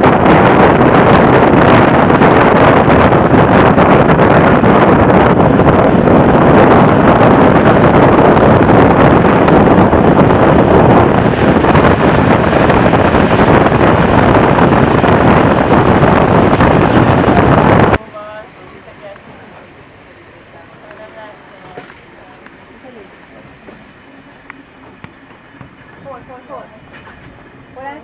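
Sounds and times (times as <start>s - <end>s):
train running on track: 0.0s - 28.0s
wind rushing over microphone: 0.0s - 28.0s.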